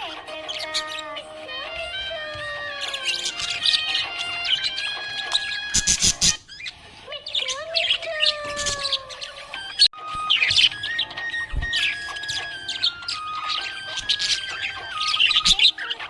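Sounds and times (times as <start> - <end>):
budgies chirping: 0.0 - 16.0
faint backing music: 0.0 - 16.0.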